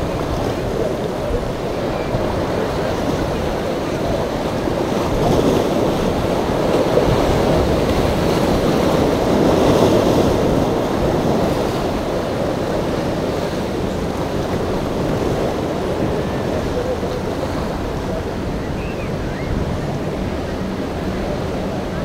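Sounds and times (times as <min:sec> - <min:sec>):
waves breaking: 0:00.0 - 0:22.0
wind buffeting microphone: 0:00.0 - 0:22.0.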